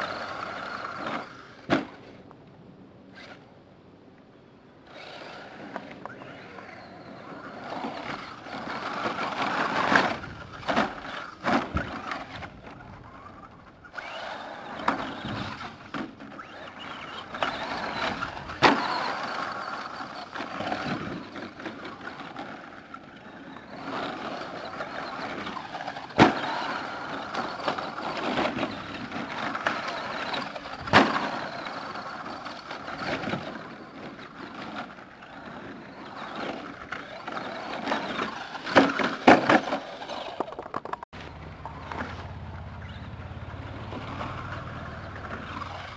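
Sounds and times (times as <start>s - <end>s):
rc truck motor whining: 0.0s - 2.2s, 3.1s - 3.5s, 4.8s - 45.9s.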